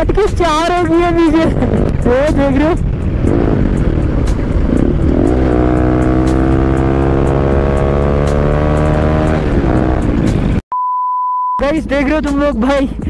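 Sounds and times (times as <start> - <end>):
motorcycle engine through loud exhaust: 0.0 - 10.6.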